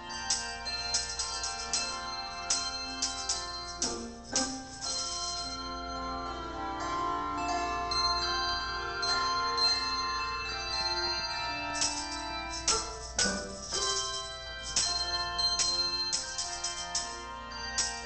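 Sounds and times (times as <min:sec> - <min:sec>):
handbell choir playing: 0:00.0 - 0:18.0.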